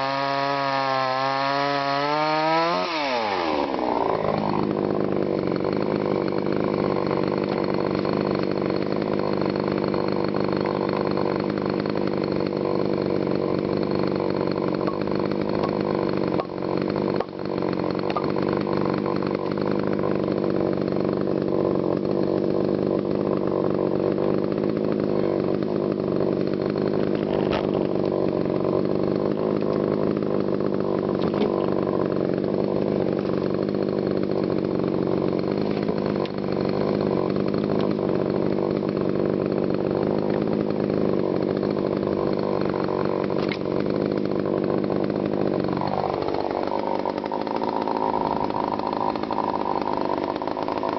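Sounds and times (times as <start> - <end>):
chainsaw cutting wood at full throttle: 0.0 - 50.9.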